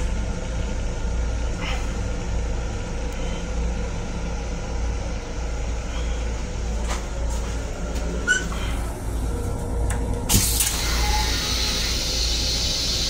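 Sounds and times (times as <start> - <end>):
train rumble and hiss: 0.0 - 13.0.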